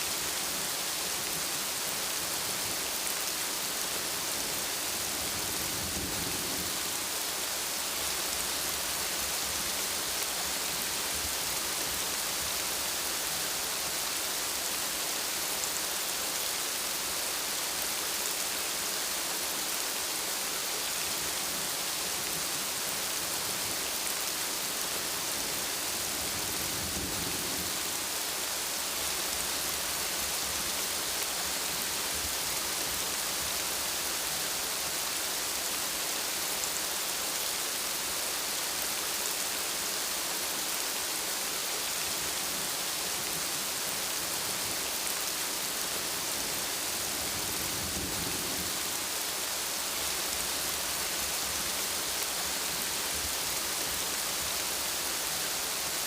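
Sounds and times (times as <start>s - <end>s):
dense rainfall hissing: 0.0s - 56.0s.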